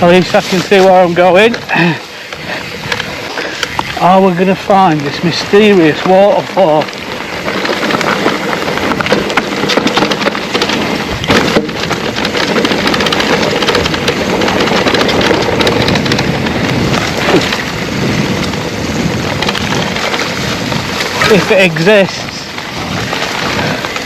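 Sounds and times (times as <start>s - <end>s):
bike knocking and rattling: 0.0s - 24.0s
tyres rolling on rough ground: 0.0s - 24.0s.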